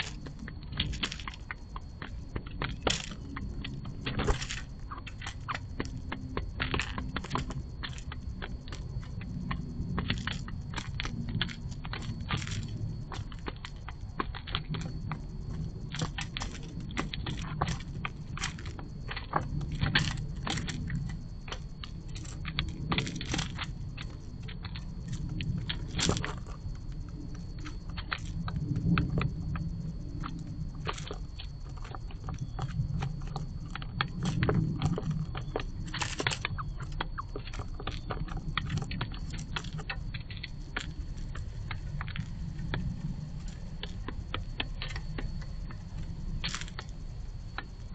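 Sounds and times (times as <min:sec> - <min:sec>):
birds cracking seeds and pecking: 0:00.0 - 0:47.9
steady low rumble: 0:00.0 - 0:47.9.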